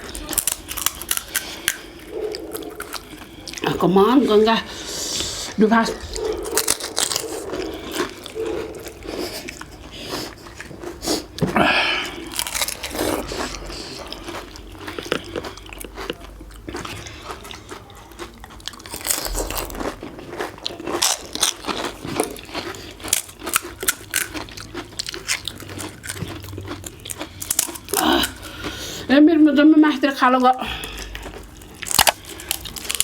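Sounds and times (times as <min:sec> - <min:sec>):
crunching crisp fried shells: 0:00.0 - 0:29.1, 0:30.2 - 0:33.0.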